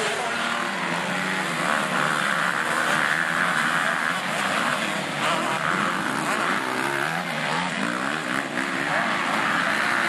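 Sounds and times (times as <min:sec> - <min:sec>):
motocross bike engines revving: 0:00.0 - 0:10.0.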